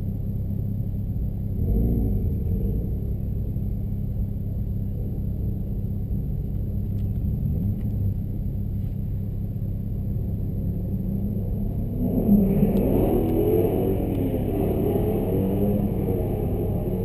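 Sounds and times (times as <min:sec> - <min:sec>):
car engine idling: 0:02.8 - 0:17.0.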